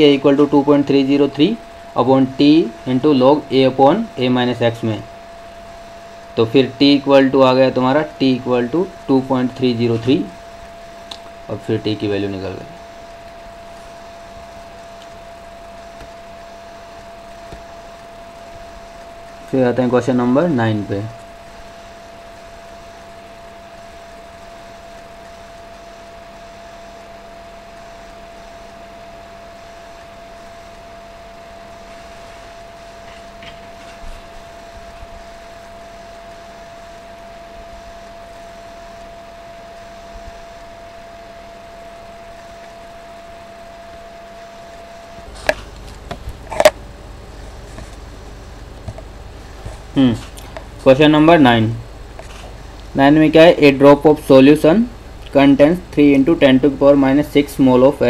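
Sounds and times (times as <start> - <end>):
faint constant hum: 0.0 - 58.0
recording hiss: 0.0 - 58.0.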